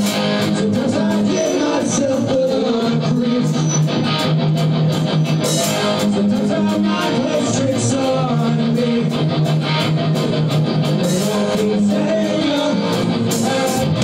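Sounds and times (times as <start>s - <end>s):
electric guitar playing held notes: 0.0s - 14.0s
live rock music: 0.0s - 14.0s.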